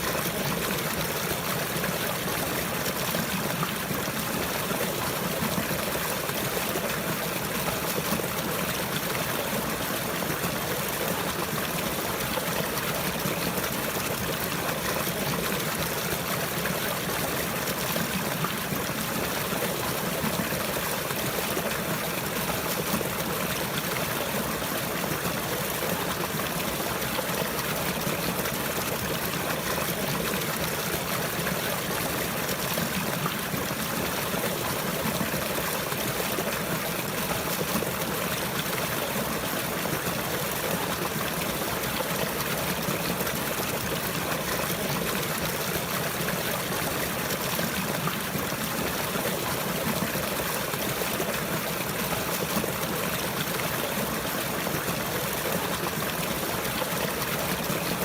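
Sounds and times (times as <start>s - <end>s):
stream of running water: 0.0s - 58.0s.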